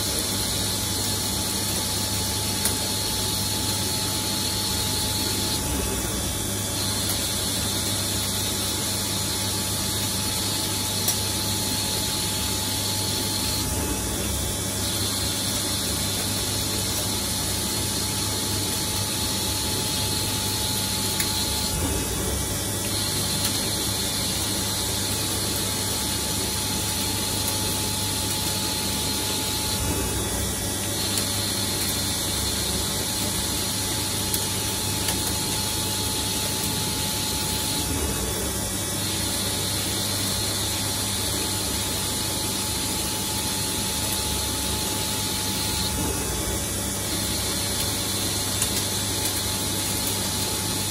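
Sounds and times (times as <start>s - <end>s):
high machine whine: 0.0s - 50.9s.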